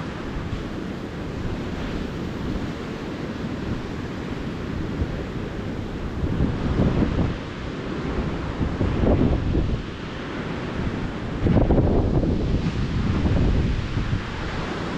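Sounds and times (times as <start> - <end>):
ocean surf washing onto beach: 0.0 - 14.9
wind buffeting microphone: 0.0 - 14.9.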